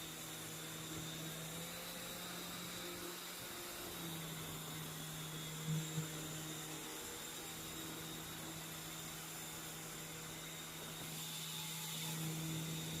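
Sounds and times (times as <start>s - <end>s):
toy helicopter rotor whir: 0.0s - 13.0s.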